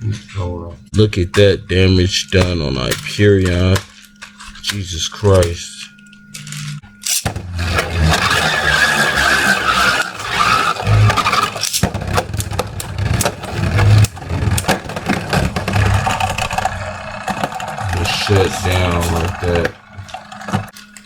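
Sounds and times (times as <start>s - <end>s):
high whirring whine: 0.0s - 21.0s
spinning tops clashing: 2.2s - 21.0s.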